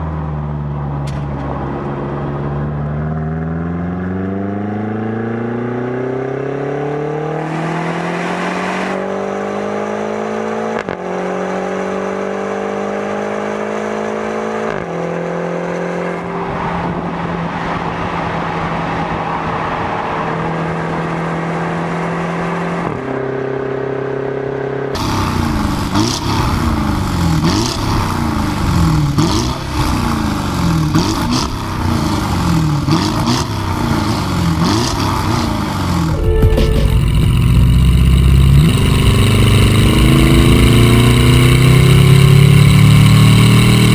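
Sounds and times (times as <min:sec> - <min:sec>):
engine accelerating at full throttle: 0:01.5 - 0:43.9.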